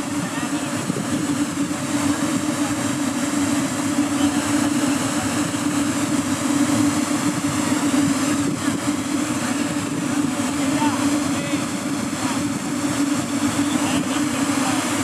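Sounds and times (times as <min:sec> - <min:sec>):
noisy background: 0:00.0 - 0:15.0
swarm of drones humming: 0:00.0 - 0:15.0.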